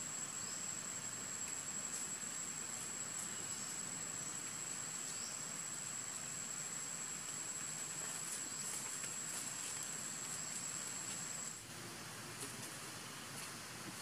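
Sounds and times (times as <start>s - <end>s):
faint outdoor background noise: 0.0s - 14.0s.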